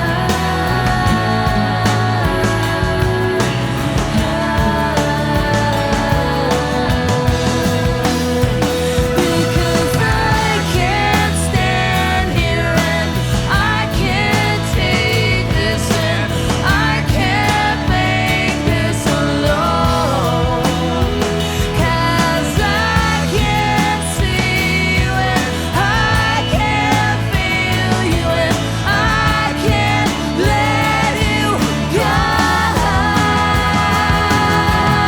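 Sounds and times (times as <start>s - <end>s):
song with beat and bass: 0.0s - 35.0s.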